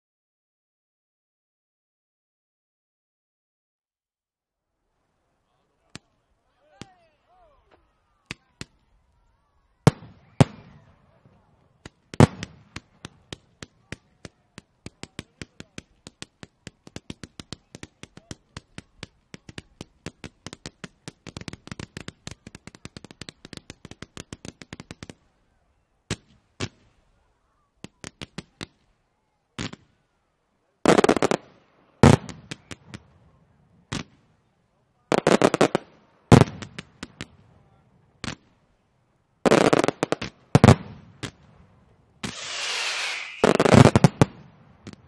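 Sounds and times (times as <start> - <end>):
fireworks launch reports: 4.8 - 45.0.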